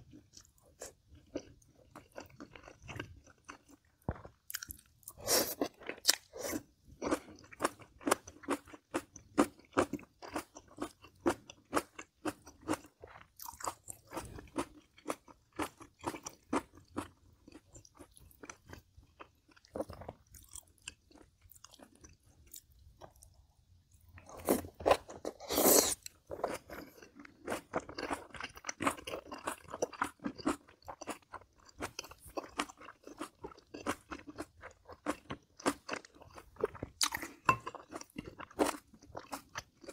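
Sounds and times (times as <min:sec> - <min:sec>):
chewing and wet crunching: 0:00.0 - 0:23.4, 0:24.2 - 0:39.9.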